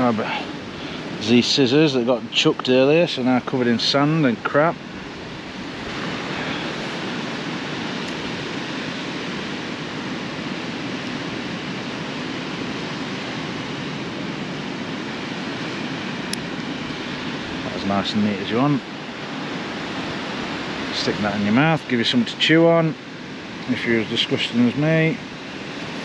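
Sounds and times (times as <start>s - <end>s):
surf rushing: 0.0s - 26.0s
wind: 0.0s - 26.0s.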